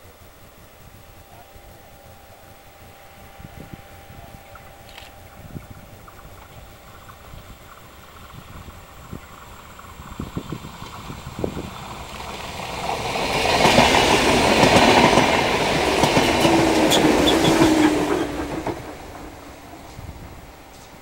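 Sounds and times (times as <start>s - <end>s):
low train hum: 0.0s - 21.0s
train wheels rushing on track: 0.0s - 21.0s.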